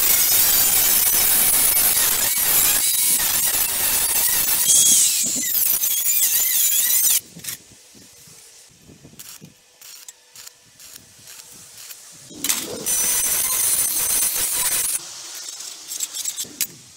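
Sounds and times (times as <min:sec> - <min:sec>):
angle grinder cutting sheet metal: 0:00.0 - 0:07.2, 0:09.2 - 0:16.7.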